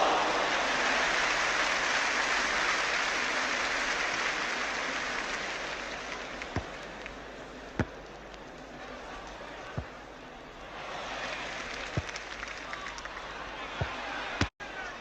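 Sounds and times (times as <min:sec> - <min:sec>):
stadium crowd roar: 0:00.0 - 0:15.0.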